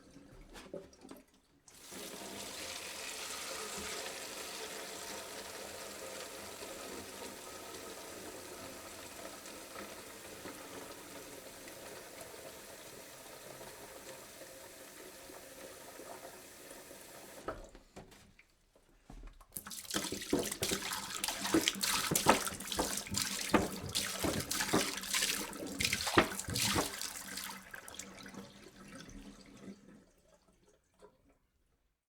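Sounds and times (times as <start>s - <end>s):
water pouring into a jug: 1.0s - 17.4s, 19.6s - 31.4s.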